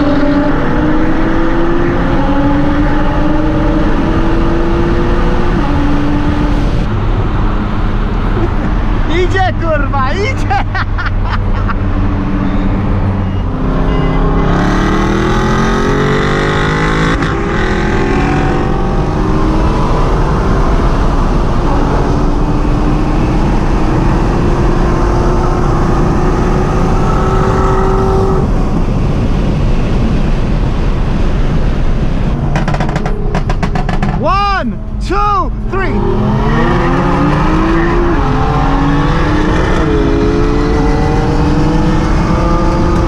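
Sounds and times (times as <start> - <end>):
car engine at full throttle: 0.0 - 43.0
wind and road noise: 0.0 - 43.0.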